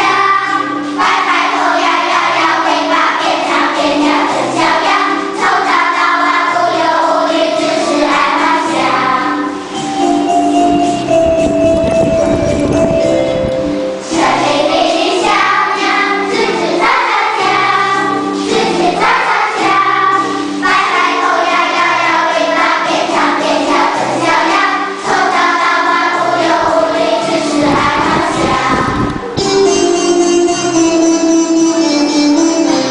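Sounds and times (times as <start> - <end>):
children singing: 0.0 - 11.0, 13.7 - 30.0
instrumental backing music: 0.0 - 32.9.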